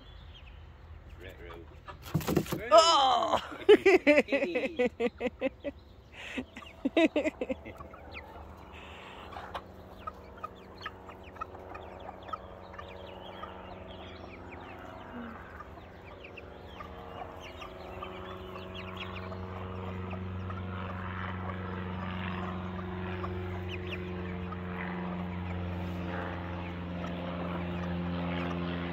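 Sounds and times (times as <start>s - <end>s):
chicks cheeping and clucking: 0.0s - 2.6s, 4.6s - 28.9s
low engine drone: 2.8s - 28.9s.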